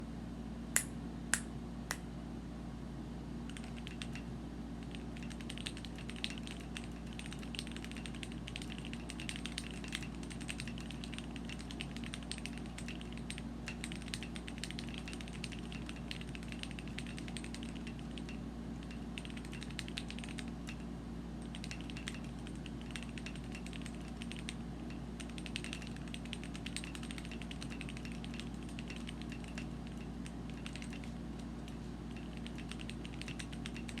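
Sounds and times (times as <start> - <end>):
mechanical keyboard typing: 3.5 - 4.2, 4.8 - 20.8, 21.4 - 34.0.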